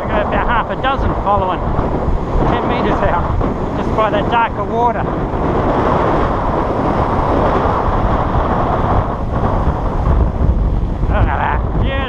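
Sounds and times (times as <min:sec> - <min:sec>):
surf breaking: 0:00.0 - 0:12.0
wave washing up sand: 0:00.0 - 0:12.0
wind buffeting microphone: 0:00.0 - 0:12.0.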